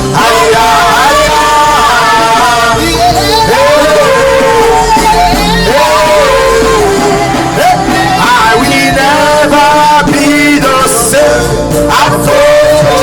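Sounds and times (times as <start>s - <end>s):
backing band playing: 0.0s - 13.0s
voices singing worship music: 0.0s - 13.0s.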